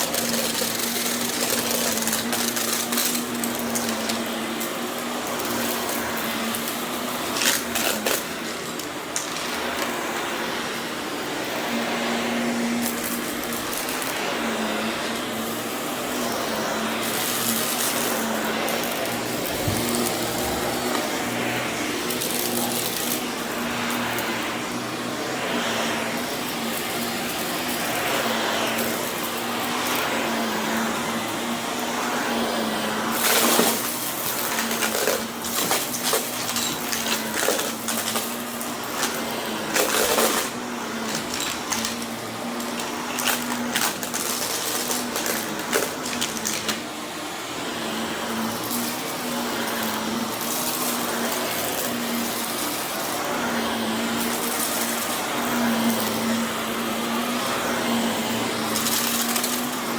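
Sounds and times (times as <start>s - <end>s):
grit crunching in vacuum: 0.0s - 59.9s
vacuum cleaner motor hum: 0.0s - 59.9s.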